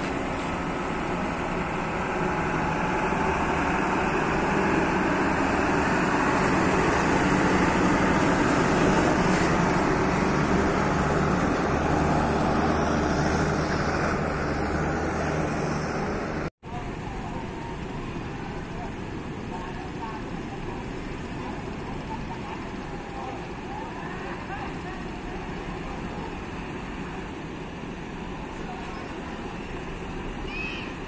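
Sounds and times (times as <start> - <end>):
bus diesel engine driving past: 0.0 - 31.0.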